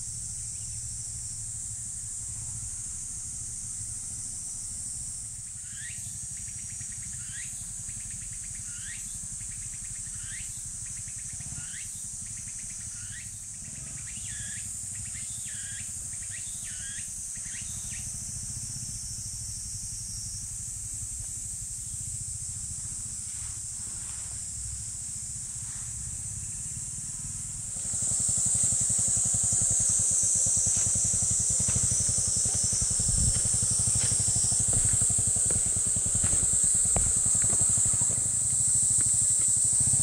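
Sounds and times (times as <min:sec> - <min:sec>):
insect chorus: 0:00.0 - 0:40.0.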